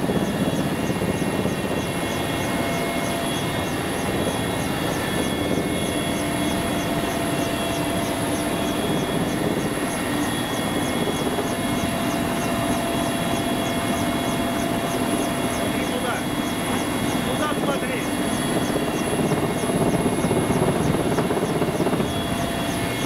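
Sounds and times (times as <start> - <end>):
fast high-pitched ticking: 0.0 - 23.0
helicopter engines and rotors: 0.0 - 23.0.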